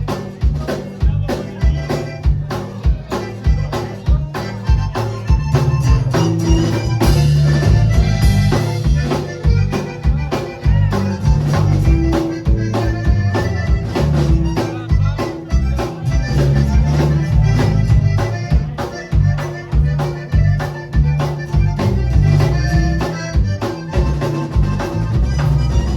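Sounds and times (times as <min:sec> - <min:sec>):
accordion: 0:00.0 - 0:25.9
bass and drums: 0:00.0 - 0:25.9.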